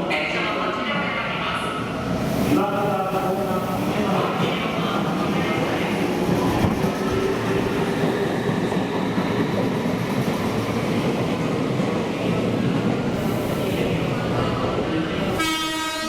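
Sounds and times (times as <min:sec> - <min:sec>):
train wheels running on rails: 0:02.2 - 0:15.2.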